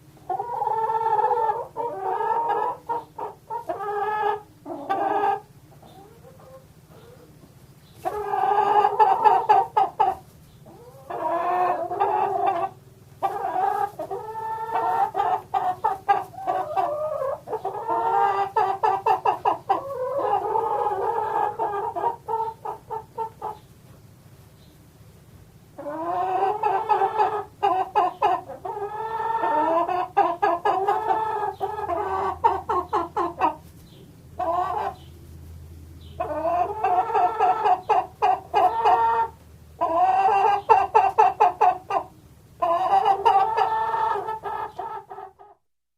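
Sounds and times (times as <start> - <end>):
hens clucking: 0.2 - 24.9, 25.6 - 45.6.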